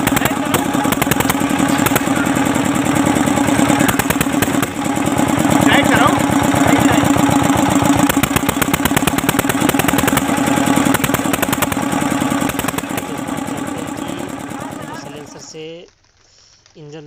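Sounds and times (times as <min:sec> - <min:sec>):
diesel engine chugging: 0:00.0 - 0:15.7.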